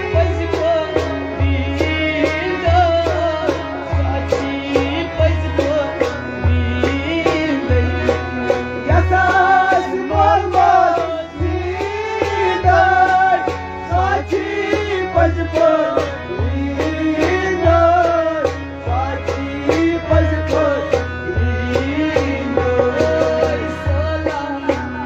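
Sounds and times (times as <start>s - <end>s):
drum beat with deep thumps: 0.0s - 25.0s
electronic keyboard playing: 0.0s - 25.0s
man singing: 0.0s - 25.0s.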